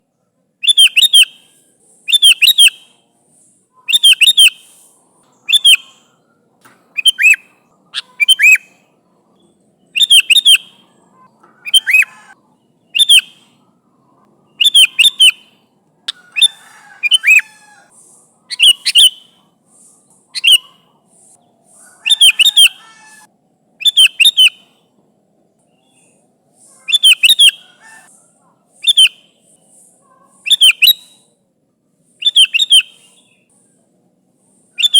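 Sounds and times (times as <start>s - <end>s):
bird calling: 0.6s - 3.0s, 3.7s - 24.9s, 25.8s - 31.3s, 32.2s - 33.8s, 34.6s - 34.9s.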